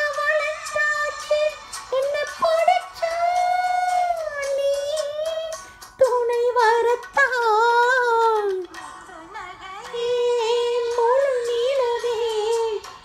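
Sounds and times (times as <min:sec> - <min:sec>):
woman singing slow melody: 0:00.0 - 0:13.0.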